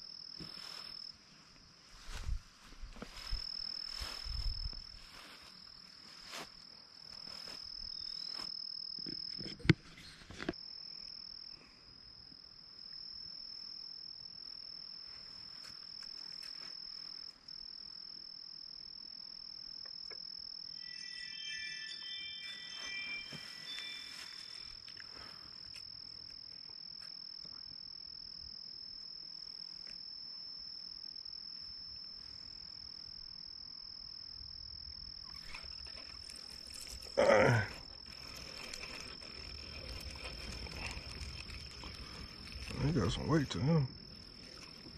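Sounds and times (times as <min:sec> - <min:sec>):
insects chirping: 0:00.0 - 0:44.9.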